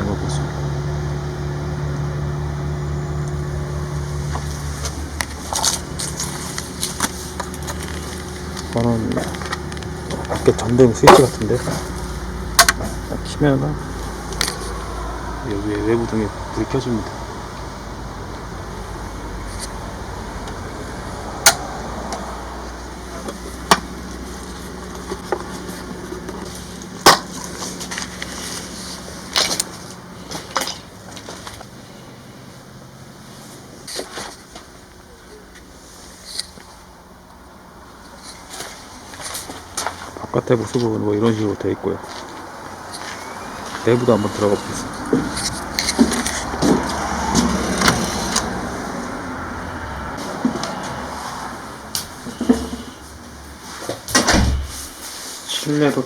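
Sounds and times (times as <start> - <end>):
machine hum: 0.0 - 55.1.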